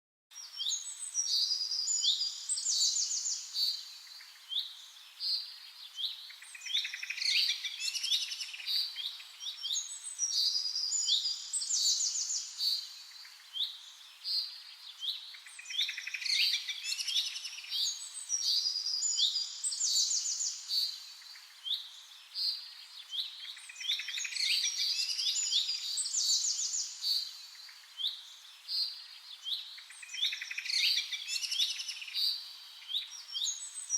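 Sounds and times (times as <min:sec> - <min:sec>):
small birds chirping and twittering: 0:00.3 - 0:33.9.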